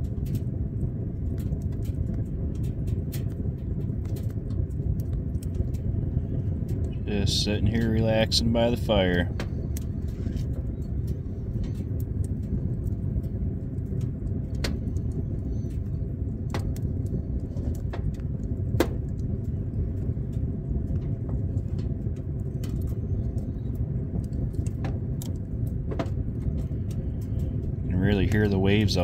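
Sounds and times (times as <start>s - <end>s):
sharp pops from fire: 0.0s - 29.0s
wood fire crackling: 0.0s - 29.0s.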